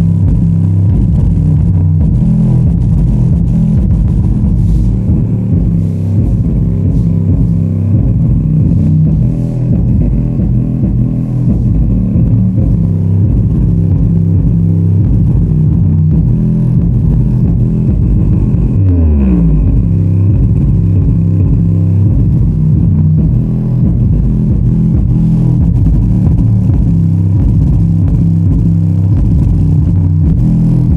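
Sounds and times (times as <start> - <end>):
bass-heavy music through subwoofers: 0.0 - 30.9
deep bass note sliding down: 0.0 - 30.9.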